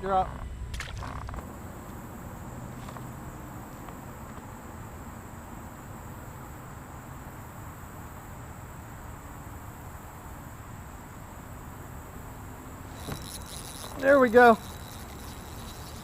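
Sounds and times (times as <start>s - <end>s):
insects buzzing chorus: 0.0s - 16.0s.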